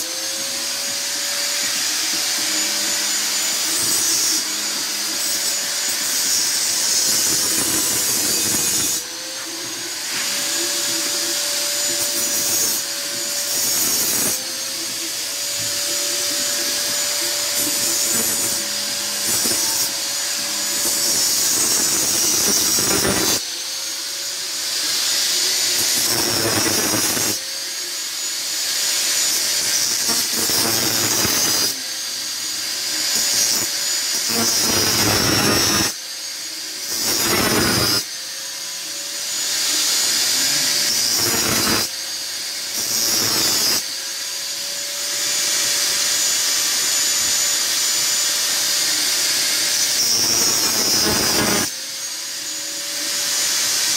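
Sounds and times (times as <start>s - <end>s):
angle grinder grinding metal: 0.0s - 53.9s.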